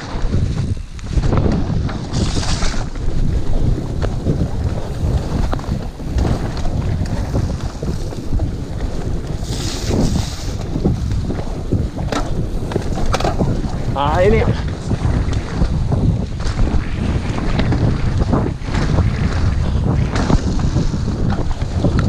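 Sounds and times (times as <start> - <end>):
bike clattering over bumps: 0.0 - 22.0
wind buffeting microphone: 0.0 - 22.0.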